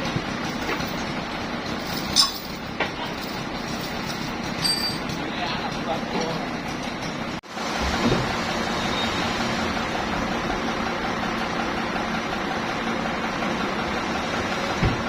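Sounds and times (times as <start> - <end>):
machinery engine running: 0.0 - 15.0.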